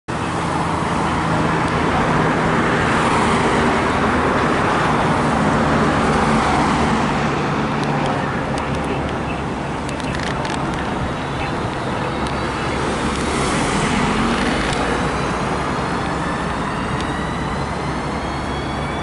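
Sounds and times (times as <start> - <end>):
cars passing close by: 0.1 - 19.0.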